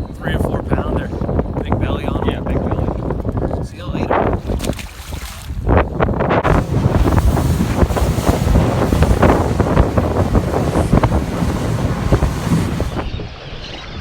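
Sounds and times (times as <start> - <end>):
boat on water: 0.0 - 13.2
wind buffeting microphone: 0.0 - 13.2.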